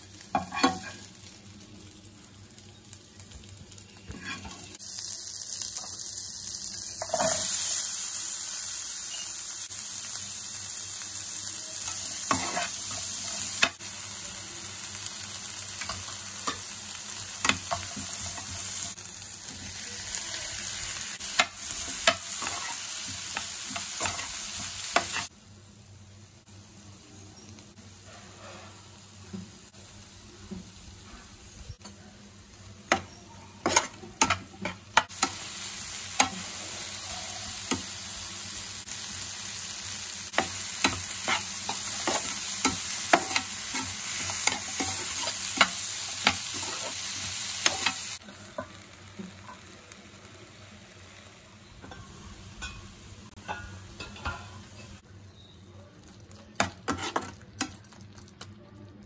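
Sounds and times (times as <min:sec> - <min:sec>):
vegetables sizzling in a frying pan: 0:00.0 - 0:59.0.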